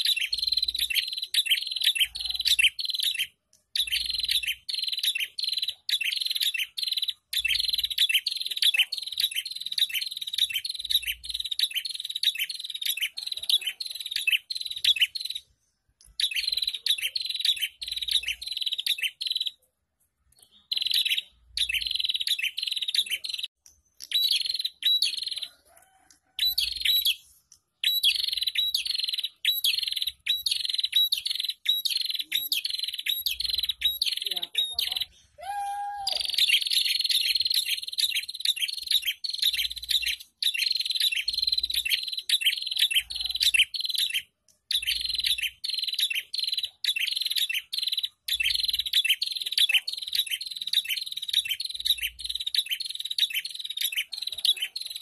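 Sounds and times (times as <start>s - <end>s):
bird sharp high chirps: 0.0s - 55.0s.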